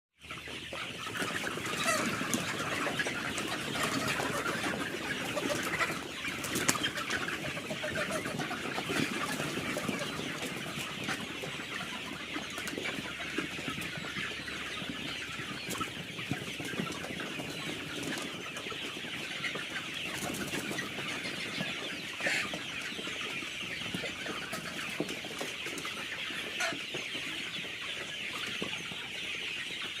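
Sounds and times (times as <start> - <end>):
chickens clucking and chirping: 0.2 - 30.0.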